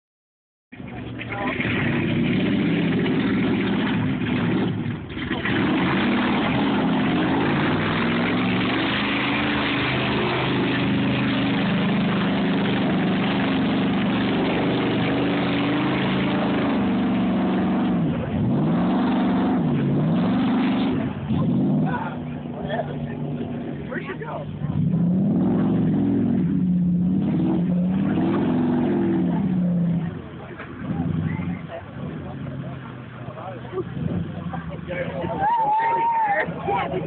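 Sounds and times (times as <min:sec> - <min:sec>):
car engine revving high: 0:01.4 - 0:33.0.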